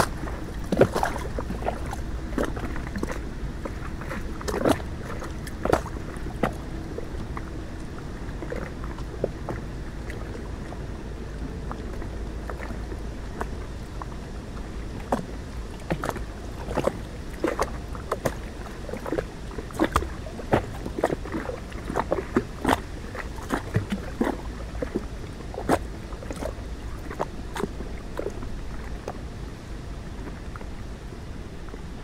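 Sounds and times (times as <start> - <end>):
steady low rumble: 0.0 - 32.0
water lapping: 0.0 - 32.0.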